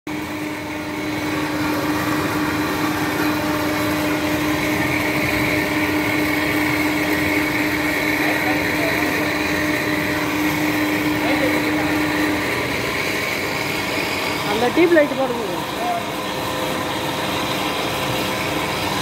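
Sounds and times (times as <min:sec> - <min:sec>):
factory machinery hum: 0:00.1 - 0:19.0
machinery whine: 0:00.1 - 0:19.0.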